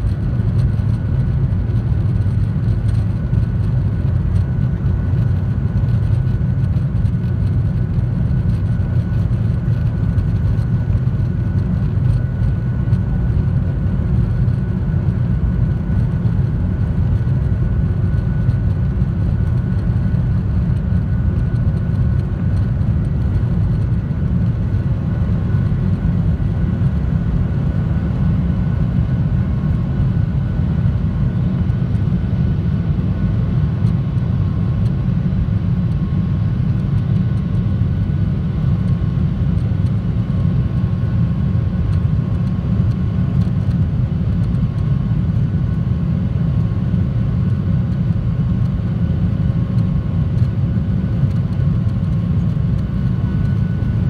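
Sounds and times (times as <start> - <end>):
airplane cabin engine roar: 0.0 - 54.0.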